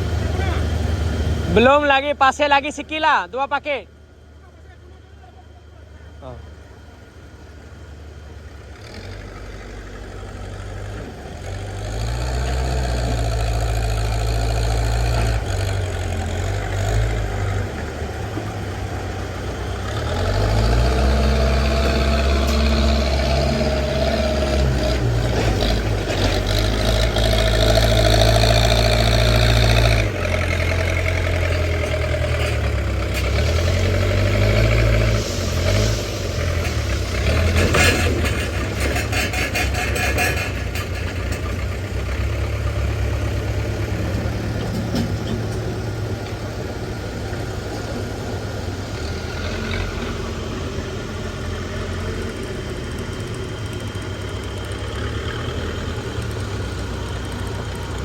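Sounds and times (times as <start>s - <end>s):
diesel engine revving under load: 0.0s - 3.3s, 6.2s - 58.0s.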